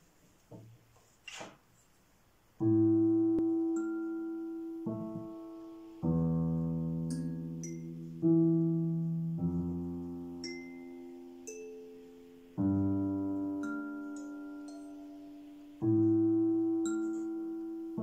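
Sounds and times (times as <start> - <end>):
digital piano chords: 2.6 - 18.0.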